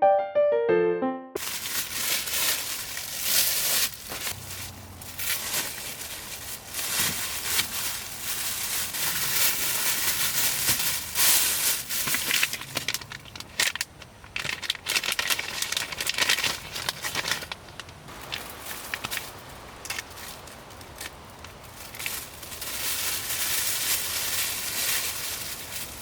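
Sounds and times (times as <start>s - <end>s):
crinkling and rustling: 1.4s - 26.0s.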